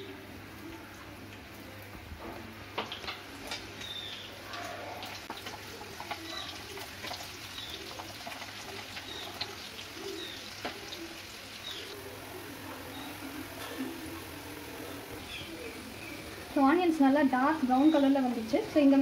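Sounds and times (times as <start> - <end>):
onions sizzling in hot oil: 1.2 - 19.0.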